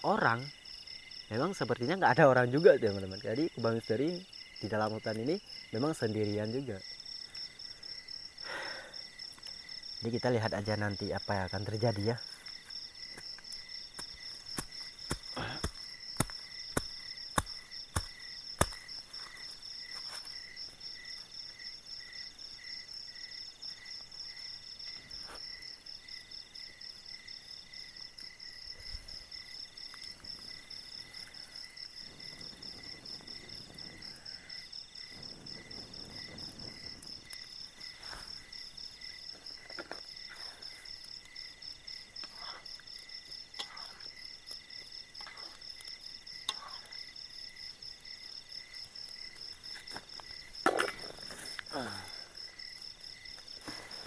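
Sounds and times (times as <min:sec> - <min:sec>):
crickets trilling: 0:00.0 - 0:54.0
low pulsing insect call: 0:00.0 - 0:54.0.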